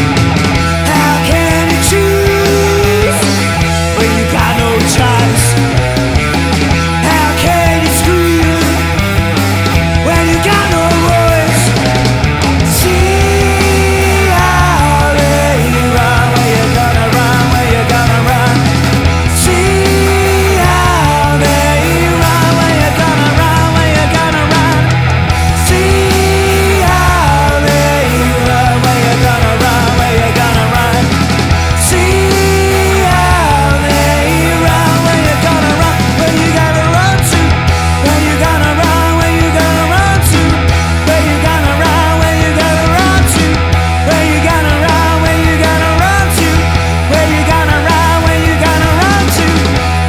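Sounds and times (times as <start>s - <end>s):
bass and drum beat: 0.0s - 50.0s
bending sliding lead guitar: 0.0s - 50.0s
blues-rock band playing: 0.0s - 50.0s.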